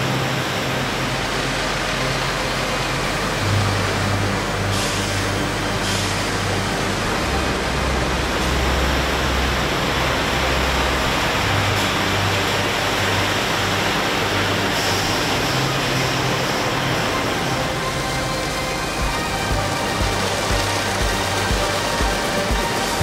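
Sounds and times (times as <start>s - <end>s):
car wash rushing noise: 0.0s - 23.0s
low motor hum: 0.0s - 23.0s.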